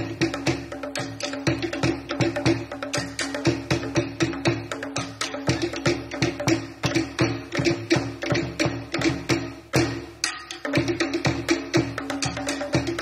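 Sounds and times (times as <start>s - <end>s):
fast wooden drum strikes: 0.0s - 13.0s.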